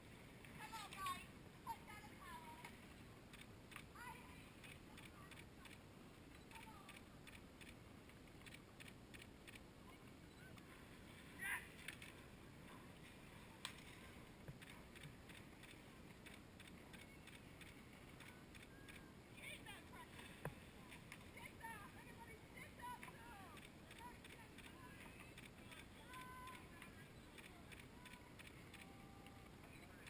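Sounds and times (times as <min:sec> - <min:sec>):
faint outdoor hiss: 0:00.0 - 0:30.0.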